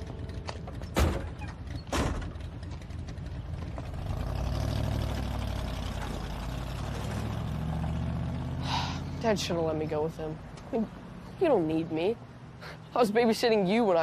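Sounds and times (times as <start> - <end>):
car engine rumbling: 0.0 - 12.6.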